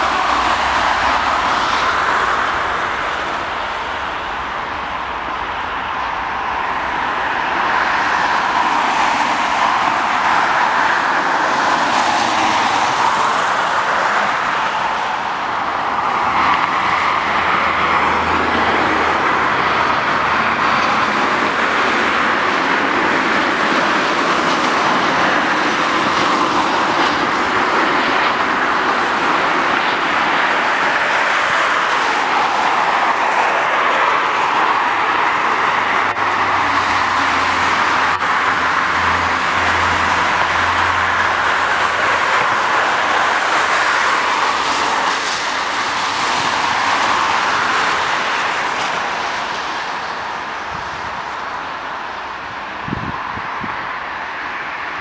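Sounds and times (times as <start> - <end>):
jet engines at takeoff: 0.0 - 55.0
jet engines on landing approach: 0.0 - 55.0.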